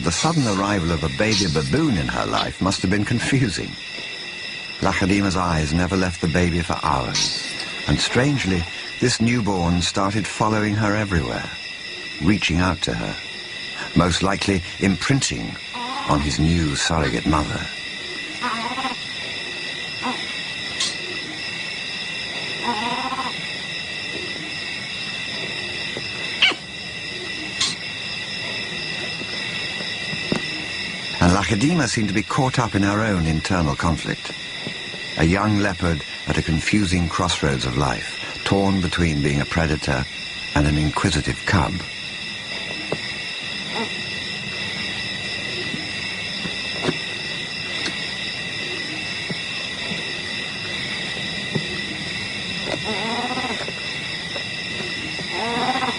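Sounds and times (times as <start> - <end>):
insect chorus drone: 0.0 - 55.9.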